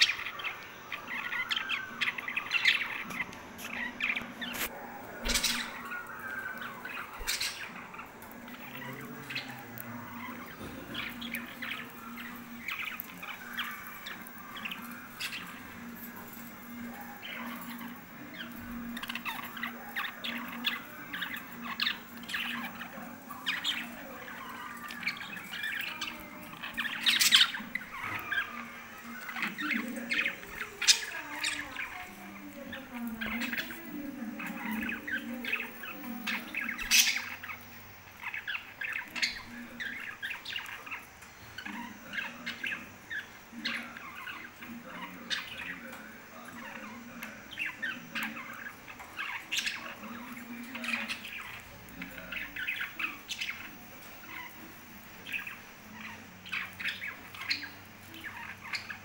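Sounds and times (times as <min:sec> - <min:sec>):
budgerigars chirping and squawking: 0:00.0 - 0:59.0
steady low hum: 0:00.0 - 0:59.0.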